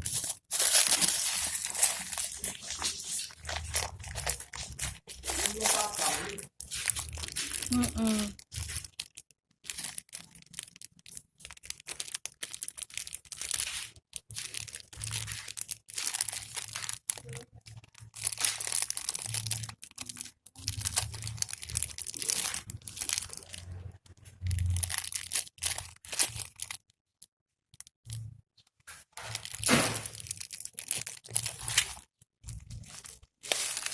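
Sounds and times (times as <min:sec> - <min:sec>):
package wrapping tearing: 0:00.0 - 0:26.9, 0:28.9 - 0:33.9
wrapping crinkling and crumpling: 0:00.0 - 0:33.9.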